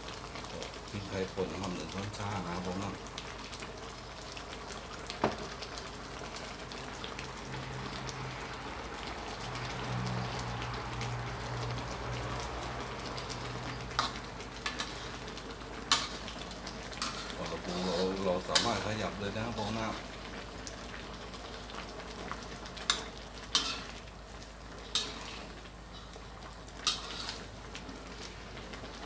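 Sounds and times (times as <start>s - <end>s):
curry bubbling with hiss: 0.0s - 29.0s.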